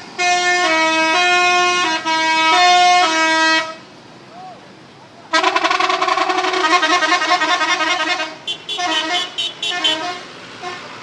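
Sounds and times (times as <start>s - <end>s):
multi-tone musical bus horn: 0.1s - 3.9s, 5.3s - 11.0s.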